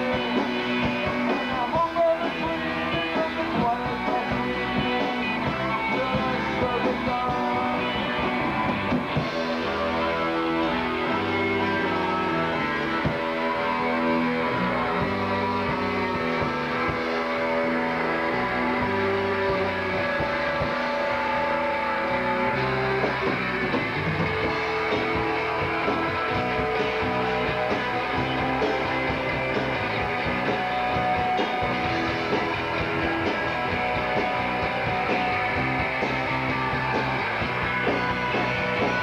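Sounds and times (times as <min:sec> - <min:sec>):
electric guitar: 0:00.0 - 0:39.0
live rock band playing: 0:00.0 - 0:39.0.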